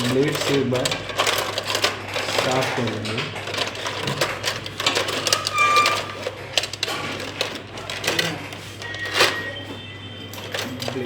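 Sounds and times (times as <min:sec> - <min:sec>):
blade scraping wire: 0:00.0 - 0:09.6.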